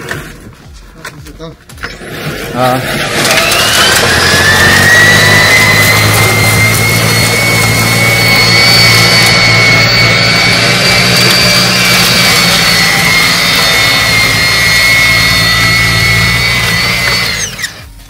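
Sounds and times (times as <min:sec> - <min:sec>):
high-pitched whine: 0:01.8 - 0:18.0
snow blower engine running: 0:01.9 - 0:18.0.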